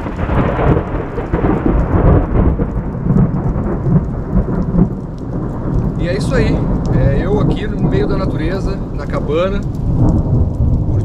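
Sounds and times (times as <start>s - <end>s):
heavy rain hissing: 0.0s - 11.0s
rolling thunder: 0.0s - 11.0s.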